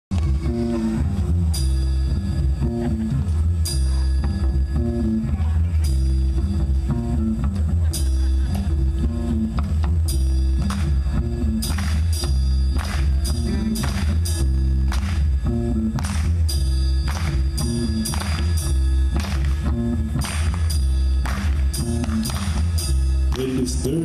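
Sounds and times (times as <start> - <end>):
bass riff: 0.0 - 24.0
electric guitar: 0.1 - 24.0.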